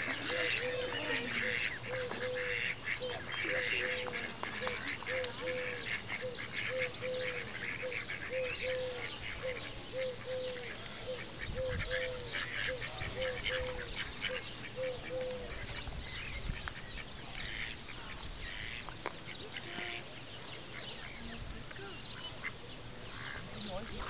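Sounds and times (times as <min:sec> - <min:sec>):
ducklings peeping: 0:00.0 - 0:24.0
ducks calling: 0:00.0 - 0:24.0.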